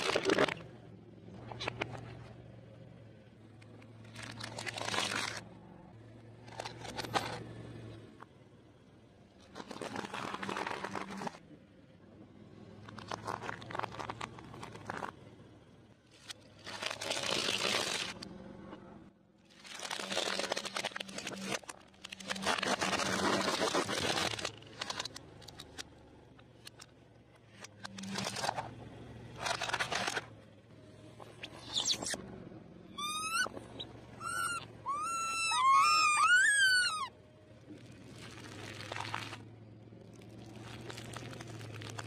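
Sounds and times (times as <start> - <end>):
low engine hum: 0.0 - 42.0.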